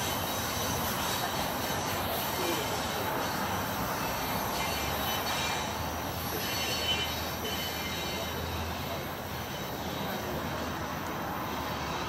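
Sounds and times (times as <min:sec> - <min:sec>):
faint wheel squeal: 0:00.0 - 0:10.9
train wheels rumbling on rail: 0:00.0 - 0:12.0.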